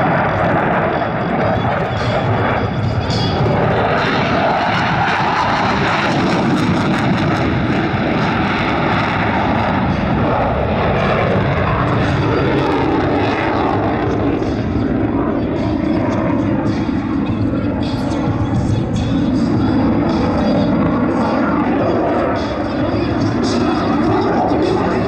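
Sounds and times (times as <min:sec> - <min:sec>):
aircraft engines running: 0:00.0 - 0:25.0.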